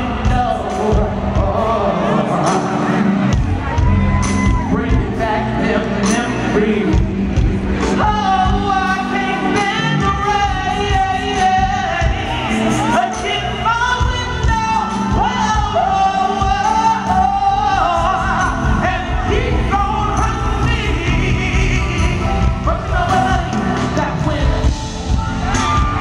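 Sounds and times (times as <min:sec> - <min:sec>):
full band playing: 0:00.0 - 0:26.0
man singing soul: 0:00.0 - 0:26.0.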